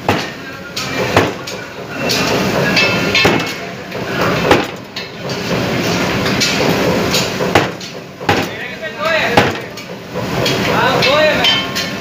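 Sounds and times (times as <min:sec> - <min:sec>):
kitchen background noise: 0:00.0 - 0:12.0.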